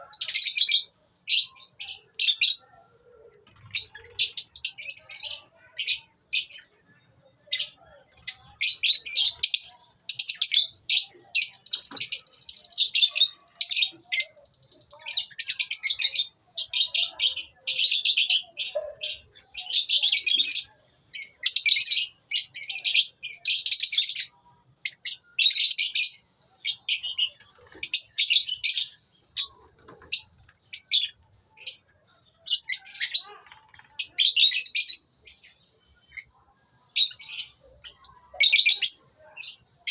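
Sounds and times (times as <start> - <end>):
lovebirds chirping and chattering: 0.0 - 39.9.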